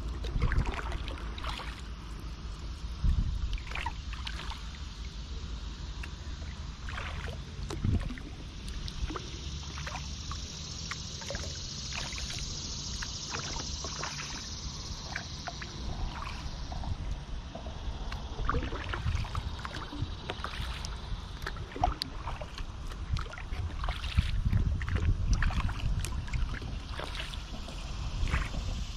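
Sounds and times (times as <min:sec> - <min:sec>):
kayak paddle splashes: 0:00.0 - 0:05.2, 0:05.9 - 0:28.9
water dripping and trickling: 0:00.0 - 0:17.2, 0:17.8 - 0:28.9
steady low rumble: 0:00.0 - 0:28.9.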